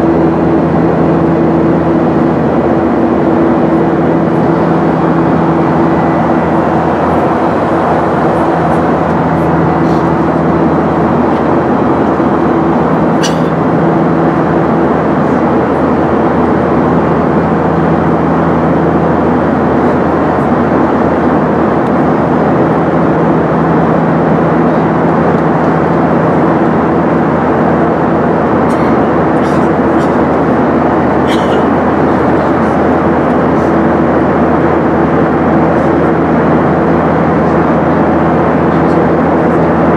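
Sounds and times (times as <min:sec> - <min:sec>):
airliner cabin noise: 0:00.0 - 0:39.9
low hum: 0:00.0 - 0:39.9.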